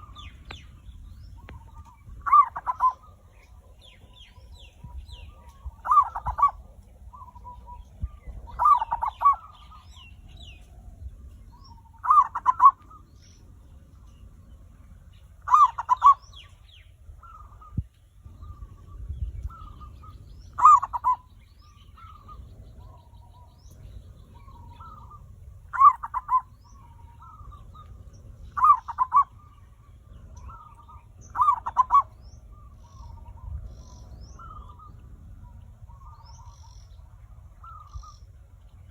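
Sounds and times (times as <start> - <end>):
dove trilled cooing: 0.0 - 38.9.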